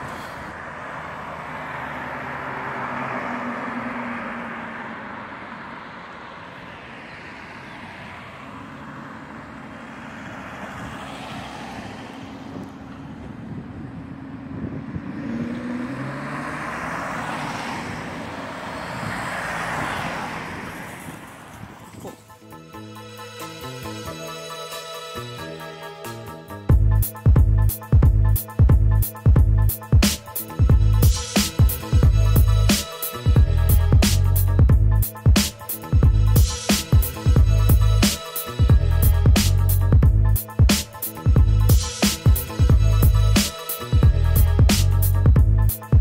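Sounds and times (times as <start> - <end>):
car engines running: 0.0 - 22.4, 26.7 - 46.0.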